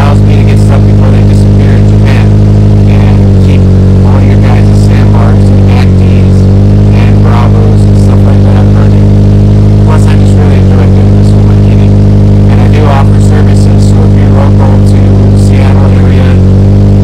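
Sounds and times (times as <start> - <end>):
low bass notes: 0.0 - 17.0.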